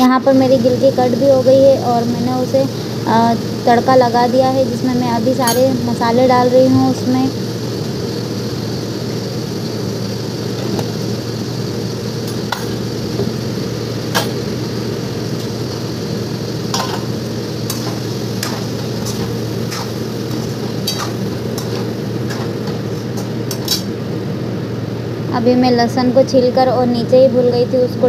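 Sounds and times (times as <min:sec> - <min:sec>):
kitchen hum: 0:00.0 - 0:28.0.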